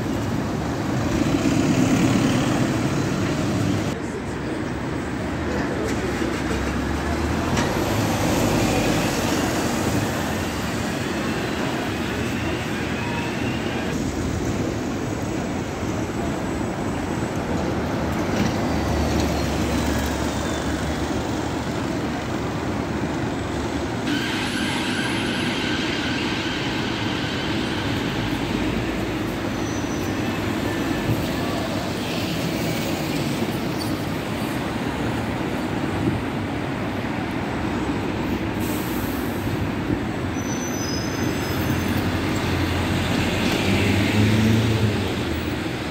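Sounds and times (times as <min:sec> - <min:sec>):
bus diesel engines rumbling: 0:00.0 - 0:45.9
steady traffic: 0:00.0 - 0:45.9.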